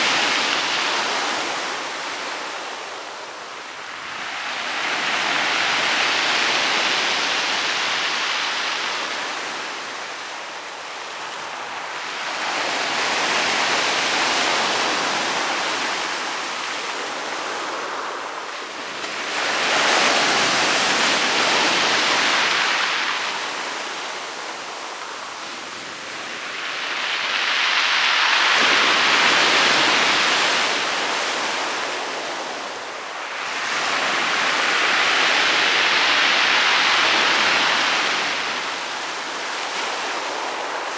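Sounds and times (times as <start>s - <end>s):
waves breaking on pebble beach: 0.0s - 40.9s.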